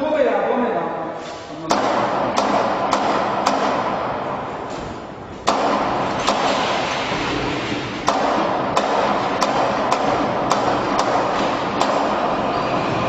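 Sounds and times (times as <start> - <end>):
machinery humming: 2.2 - 13.0.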